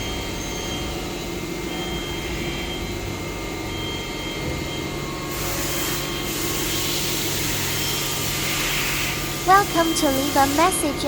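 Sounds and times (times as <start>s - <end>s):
machinery humming and whirring: 0.0s - 11.0s
faint high whine: 1.7s - 11.0s.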